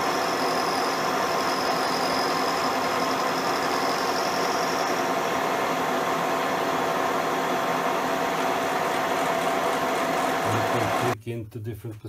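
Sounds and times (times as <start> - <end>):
high machine whine: 0.0 - 11.2
milling machine humming: 0.0 - 11.2.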